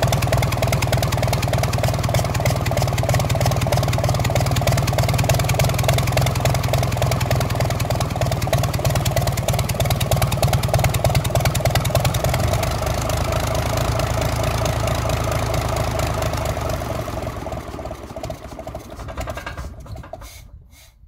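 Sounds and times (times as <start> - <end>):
diesel engine running and shutting off: 0.0 - 20.9.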